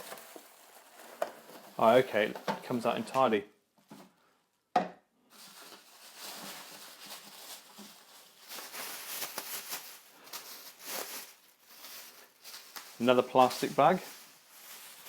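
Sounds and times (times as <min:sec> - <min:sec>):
plastic packaging crinkling: 0:00.0 - 0:03.4, 0:05.3 - 0:15.0.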